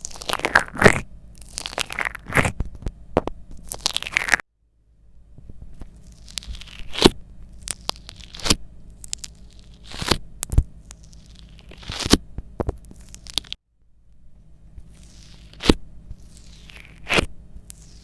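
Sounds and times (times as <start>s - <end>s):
slime squished by hand: 0.0s - 4.4s, 5.8s - 13.6s, 14.8s - 18.0s.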